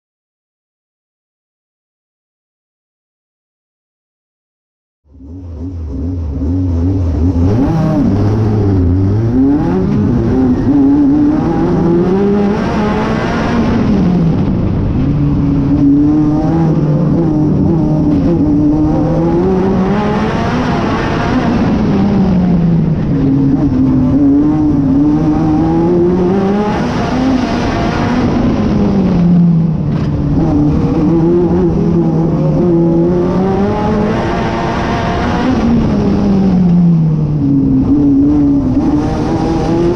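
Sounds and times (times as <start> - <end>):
race car engine under load: 5.1 - 39.9.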